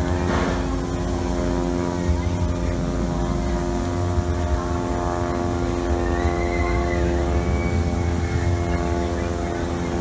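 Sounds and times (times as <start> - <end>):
steam locomotive idling hum: 0.0 - 10.0.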